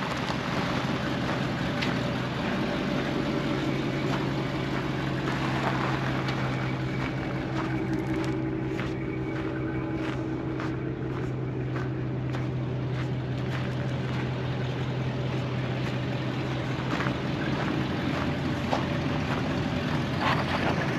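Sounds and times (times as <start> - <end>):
footsteps on gravel: 0.0 - 20.9
truck engine idling: 0.0 - 20.9.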